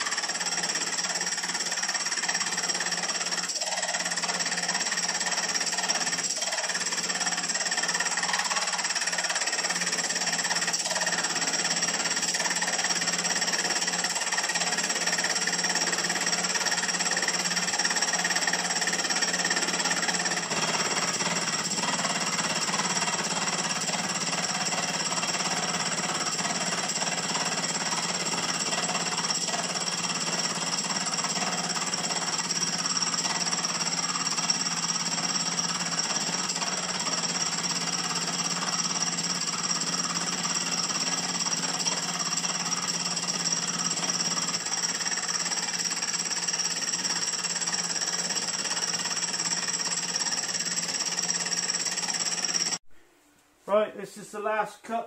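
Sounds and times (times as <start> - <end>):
cutter on metal: 0.0 - 52.8.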